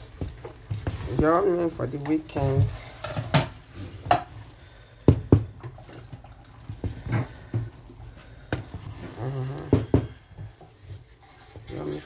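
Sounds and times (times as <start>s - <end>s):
spoon stirring noodles in pot: 0.0s - 12.0s.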